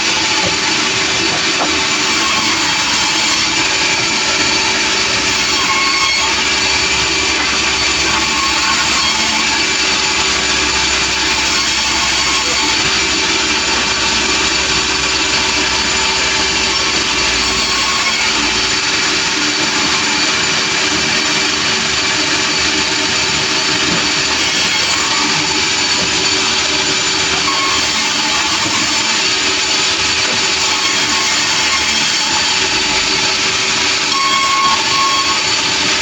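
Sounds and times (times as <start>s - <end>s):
sawmill saw cutting log: 0.0s - 36.0s.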